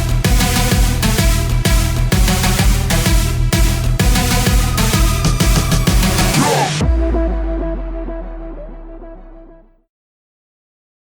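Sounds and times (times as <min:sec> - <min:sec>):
electronic dance music: 0:00.0 - 0:09.7.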